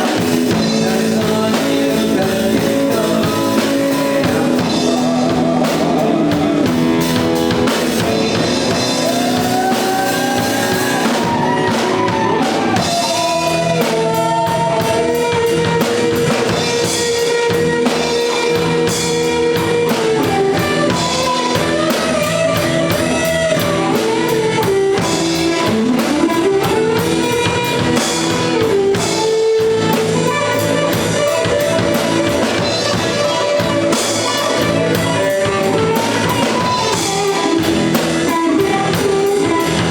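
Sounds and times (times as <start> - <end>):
drum kit beat: 0.0 - 39.9
lead guitar bending notes: 0.0 - 39.9.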